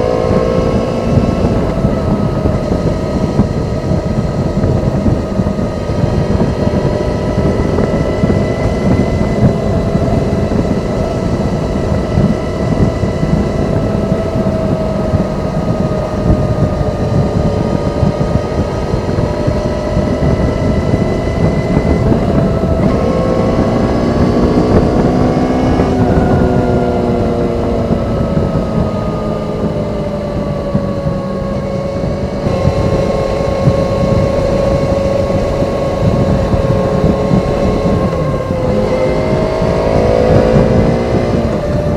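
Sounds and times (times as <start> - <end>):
motorcycle engine revving: 0.0 - 41.9
wind and road noise: 0.0 - 41.9.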